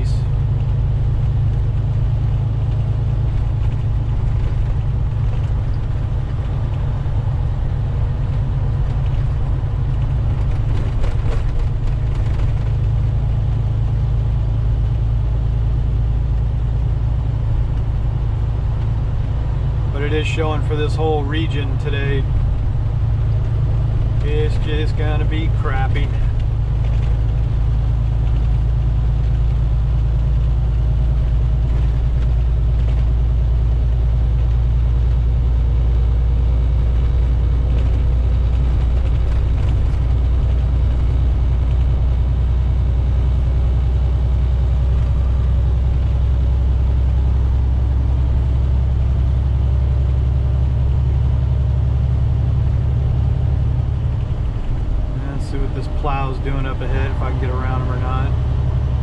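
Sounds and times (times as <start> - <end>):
road noise: 0.0 - 59.0
truck engine droning: 0.0 - 59.0.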